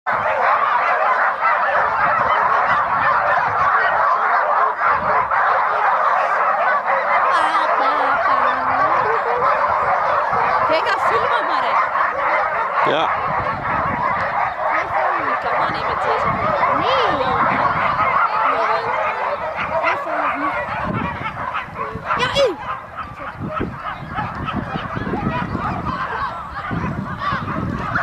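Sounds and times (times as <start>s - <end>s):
many dogs barking and yelping: 0.1s - 28.0s.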